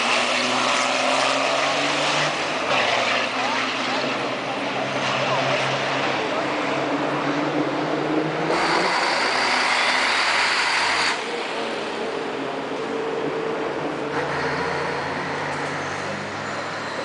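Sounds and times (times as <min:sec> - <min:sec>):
racing truck diesel engines: 0:00.0 - 0:17.0.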